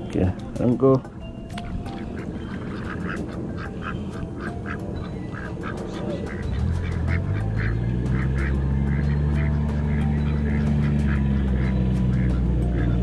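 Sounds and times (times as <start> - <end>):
ducks quacking: 0.8 - 13.0.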